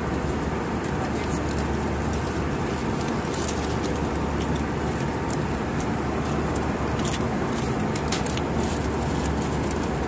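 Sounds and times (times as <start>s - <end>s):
airliner cabin air rush: 0.0s - 10.0s.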